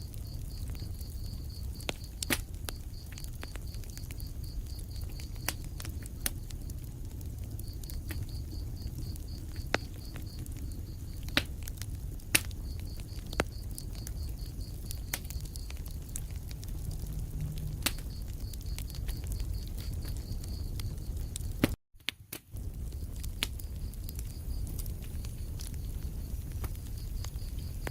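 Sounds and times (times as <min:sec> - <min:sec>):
fire flames rumbling: 0:00.0 - 0:27.9
wood fire crackling pops: 0:00.0 - 0:27.9.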